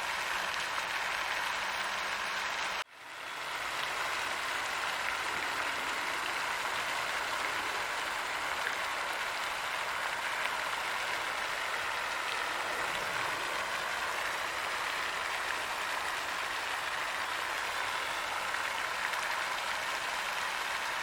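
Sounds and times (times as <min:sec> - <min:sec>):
water fountain splashing: 0:00.0 - 0:21.0.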